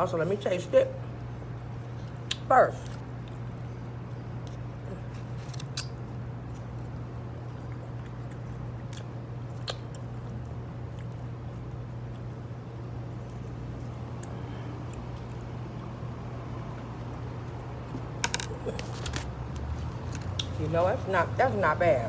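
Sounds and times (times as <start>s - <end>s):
steady low hum: 0.0s - 22.0s
person chewing: 2.1s - 20.6s.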